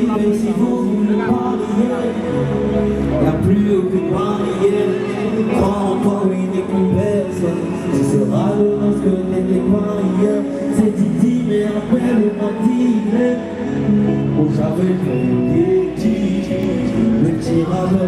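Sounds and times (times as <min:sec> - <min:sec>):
backing music with held chords: 0:00.0 - 0:18.0
man singing into a microphone: 0:00.0 - 0:18.0.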